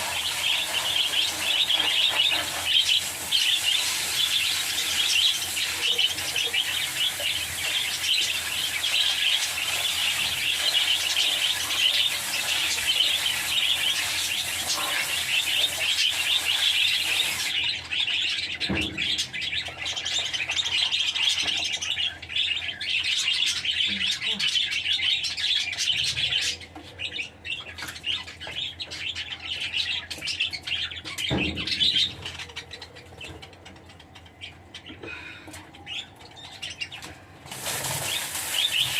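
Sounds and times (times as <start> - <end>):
lovebirds chirping: 0.0 - 37.1.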